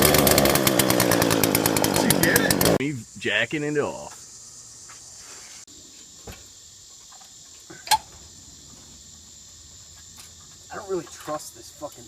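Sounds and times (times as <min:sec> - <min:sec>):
crickets chirping: 0:02.2 - 0:12.0.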